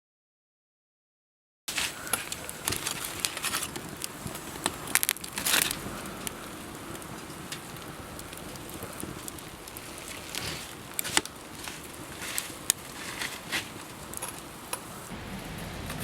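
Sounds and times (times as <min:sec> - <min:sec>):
campfire crackling: 0:01.7 - 0:16.0
sharp fire pops: 0:01.7 - 0:16.0.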